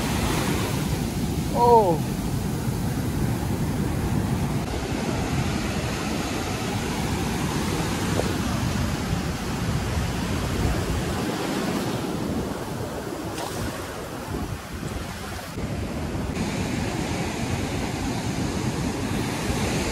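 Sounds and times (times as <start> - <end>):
surf washing onto beach: 0.0 - 19.9
wind buffeting microphone: 0.0 - 19.9.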